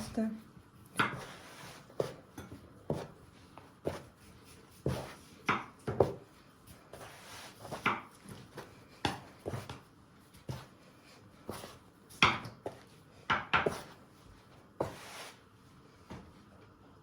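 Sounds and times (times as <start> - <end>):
dough kneading thumps: 0.0 - 15.2.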